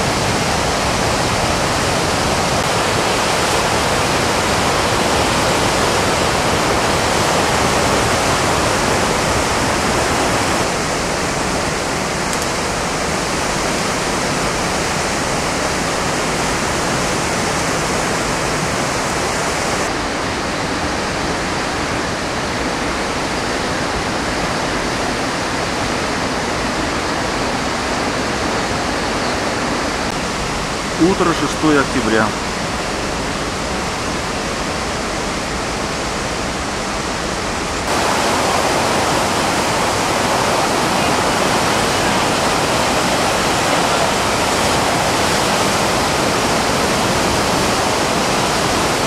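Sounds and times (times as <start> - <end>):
whitewater rapids rushing: 0.0 - 49.0.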